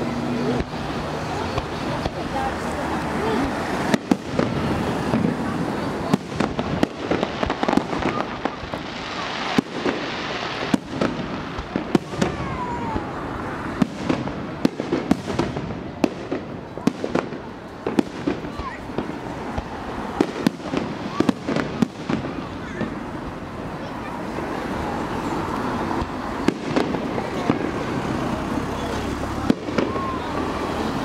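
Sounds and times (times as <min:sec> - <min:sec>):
continuous background din: 0:00.0 - 0:31.0.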